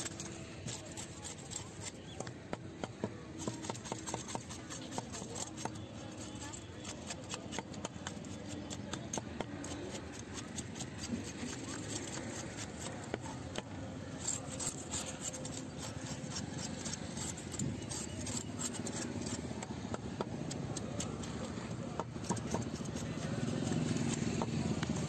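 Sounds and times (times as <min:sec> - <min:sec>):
knife scraping fish scales: 0:00.0 - 0:02.3, 0:03.4 - 0:19.7, 0:20.4 - 0:25.0.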